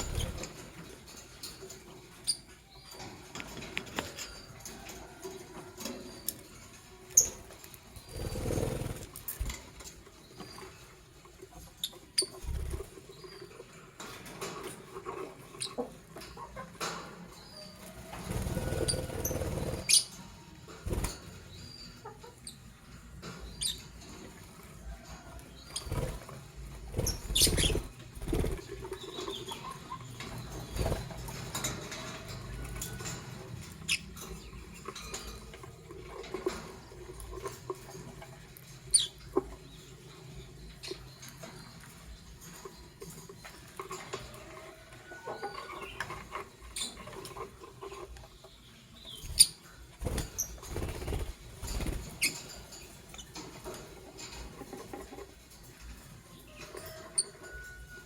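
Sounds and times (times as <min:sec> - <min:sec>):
lovebirds chirping and squeaking: 0:00.0 - 0:57.6.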